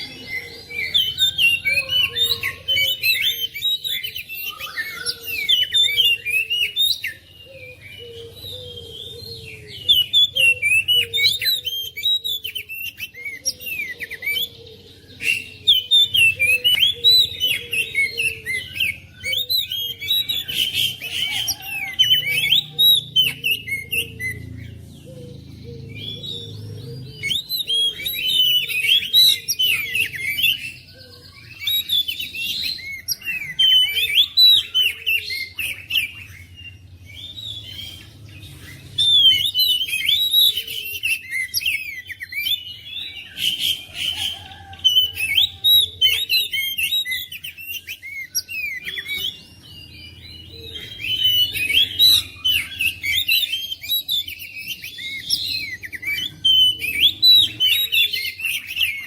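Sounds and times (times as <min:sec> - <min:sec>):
bird singing chirps and whistles: 0:00.0 - 0:59.0.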